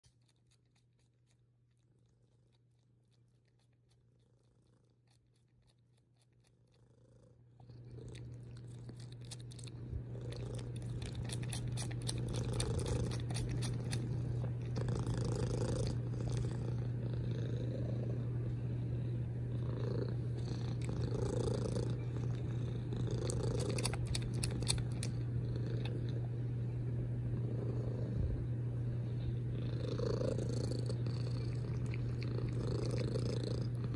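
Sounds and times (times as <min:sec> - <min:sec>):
cat purring: 0:01.7 - 0:33.9.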